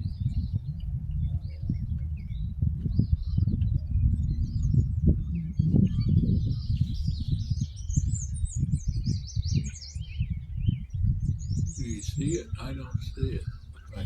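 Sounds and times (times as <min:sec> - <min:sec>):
birds chirping and trilling: 0:00.0 - 0:14.0
gusty low rumble: 0:00.0 - 0:14.0.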